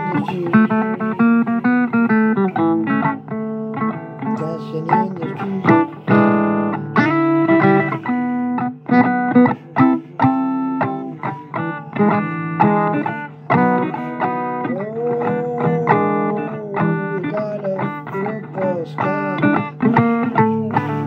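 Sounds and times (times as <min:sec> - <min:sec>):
blues guitar playing: 0:00.0 - 0:21.0.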